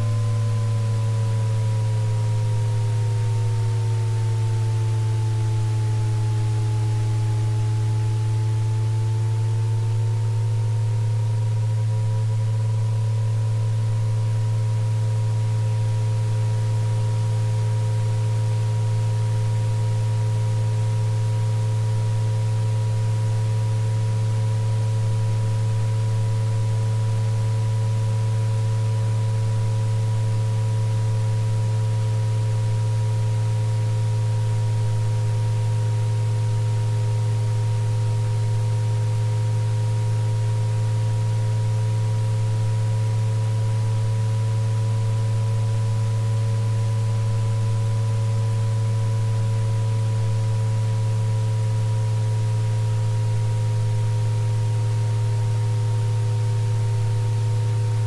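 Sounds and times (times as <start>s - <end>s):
steady low electronic hum: 0.0s - 58.0s.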